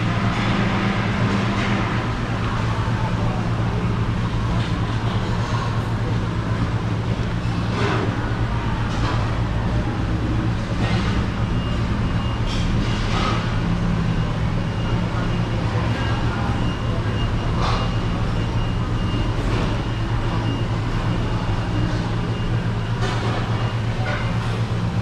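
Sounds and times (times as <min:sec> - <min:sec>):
mechanical drone with low hum: 0:00.0 - 0:25.0.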